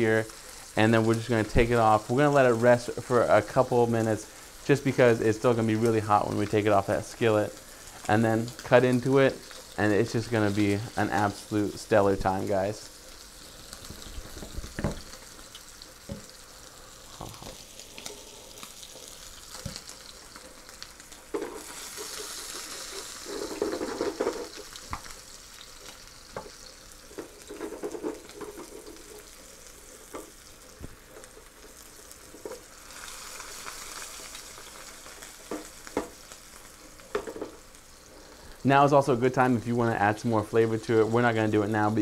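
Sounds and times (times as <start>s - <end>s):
steak sizzling in a skillet: 0.0s - 42.0s.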